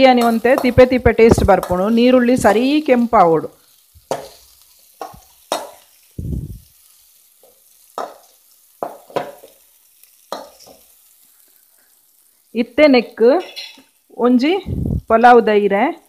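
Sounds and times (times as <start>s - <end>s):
onions sizzling: 0.0s - 16.0s.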